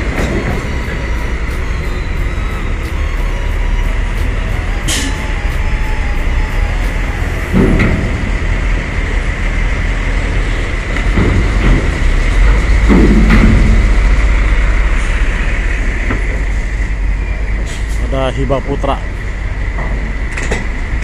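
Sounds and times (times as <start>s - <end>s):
truck engine and tyre rumble: 0.0s - 21.0s.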